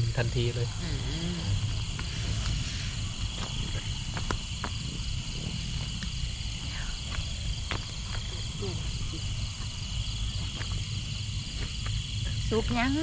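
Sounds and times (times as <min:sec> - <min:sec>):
crickets and insects trilling: 0:00.0 - 0:13.0
low background rumble: 0:00.0 - 0:13.0.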